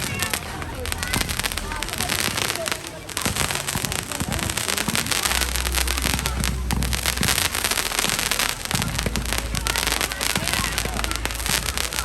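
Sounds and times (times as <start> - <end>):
fireworks bangs and crackling: 0.0 - 12.0
low rumble: 0.0 - 12.0.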